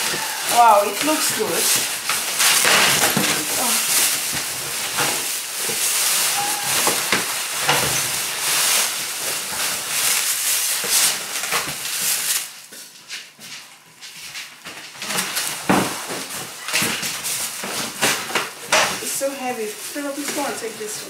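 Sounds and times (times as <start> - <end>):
plastic and cardboard crinkling: 0.0 - 21.0.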